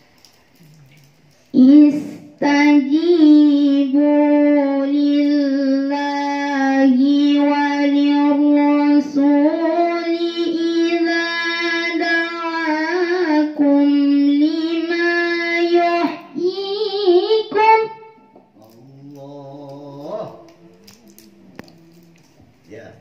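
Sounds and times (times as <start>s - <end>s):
girl reciting melodically: 1.4s - 22.6s.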